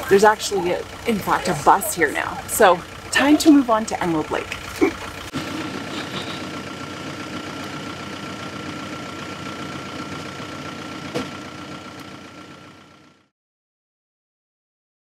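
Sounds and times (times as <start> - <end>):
constant whine: 0.0 - 13.3
vehicle engine idling: 0.0 - 13.3.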